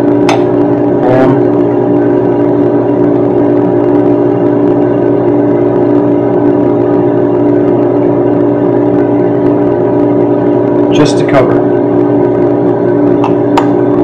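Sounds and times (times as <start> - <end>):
mechanical drone with low tones: 0.0 - 14.0.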